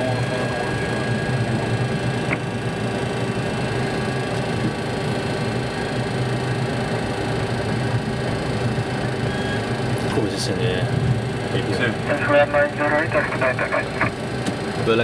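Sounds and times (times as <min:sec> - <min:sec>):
airliner engines idling: 0:00.0 - 0:15.0.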